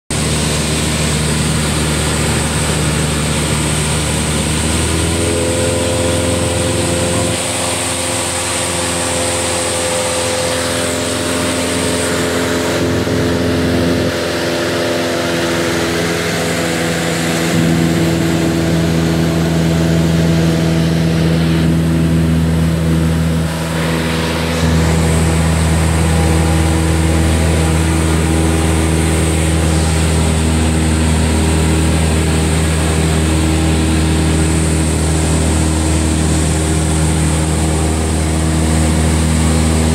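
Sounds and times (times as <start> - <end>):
aircraft engine droning: 0.1 - 39.9.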